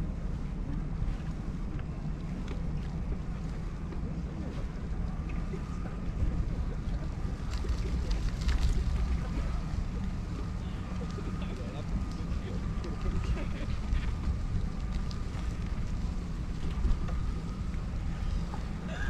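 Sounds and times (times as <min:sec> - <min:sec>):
faint steady whine: 0:00.0 - 0:19.0
low rumble of riding on concrete: 0:00.0 - 0:19.0
wind buffeting microphone: 0:00.0 - 0:19.0.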